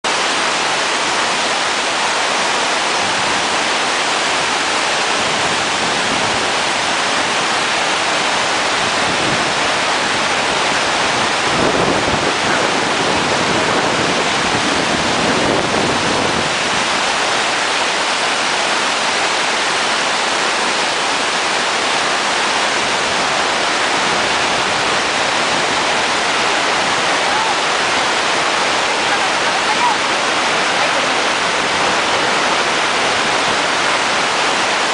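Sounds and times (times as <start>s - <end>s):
rush of falling water: 0.0s - 34.9s.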